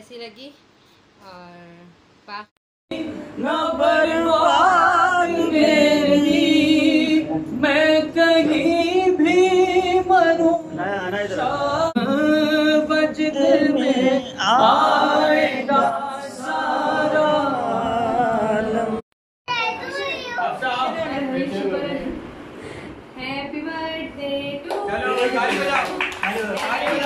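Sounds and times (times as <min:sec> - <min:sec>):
voices singing unaccompanied: 0:02.9 - 0:19.0, 0:20.4 - 0:22.4, 0:23.2 - 0:27.0.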